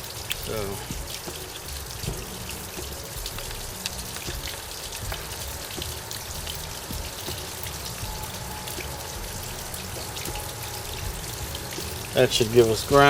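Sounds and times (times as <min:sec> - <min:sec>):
water spattering and splashing: 0:00.0 - 0:13.0.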